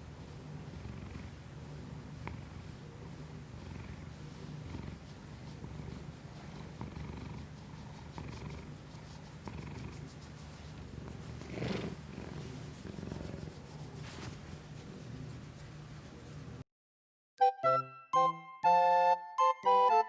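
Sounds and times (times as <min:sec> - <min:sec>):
cat purring: 0:00.0 - 0:16.6.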